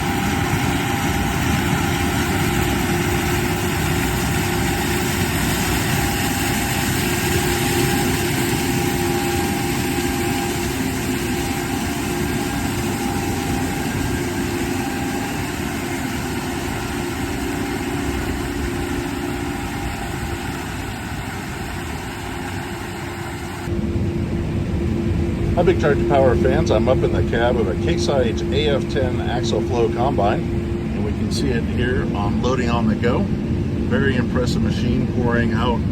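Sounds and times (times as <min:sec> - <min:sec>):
combine harvester droning: 0:00.0 - 0:35.9.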